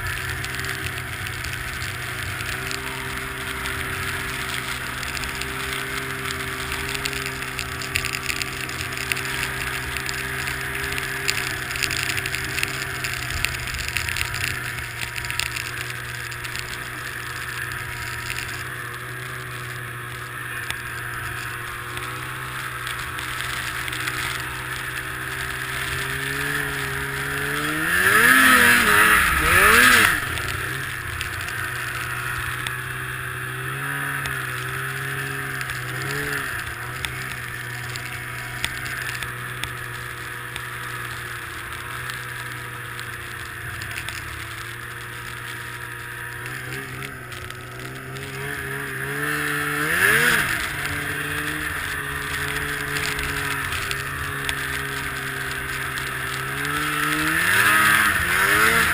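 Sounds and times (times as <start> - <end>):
snowmobile engine revving: 0.0 - 58.9.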